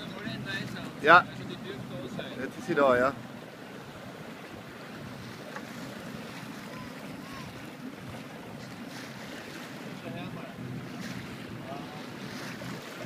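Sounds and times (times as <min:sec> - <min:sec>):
water washing along boat hull: 0:00.0 - 0:13.0.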